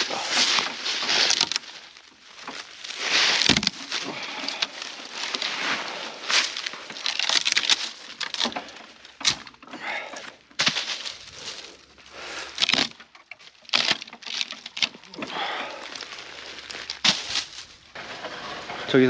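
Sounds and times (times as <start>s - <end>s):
dry leaves crunching and rustling: 0.0s - 9.5s, 10.4s - 19.0s
branches snapping: 0.0s - 18.0s.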